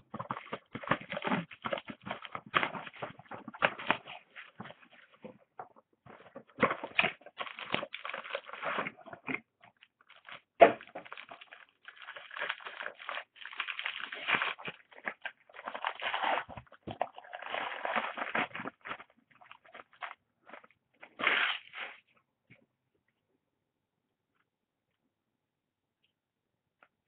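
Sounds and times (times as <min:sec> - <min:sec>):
cardboard and wrapper rustling: 0:00.0 - 0:22.1.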